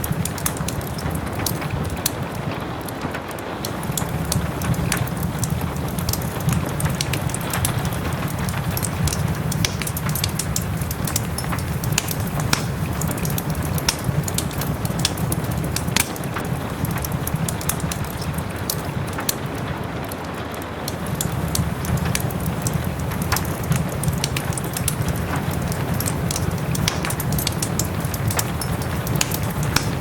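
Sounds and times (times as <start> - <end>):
soft rain: 0.0 - 30.0
wood fire crackling and popping: 0.0 - 30.0.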